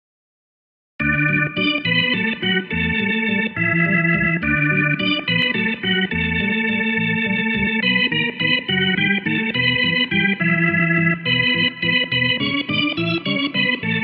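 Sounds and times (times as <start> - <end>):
sustained keyboard chords: 1.0 - 14.0.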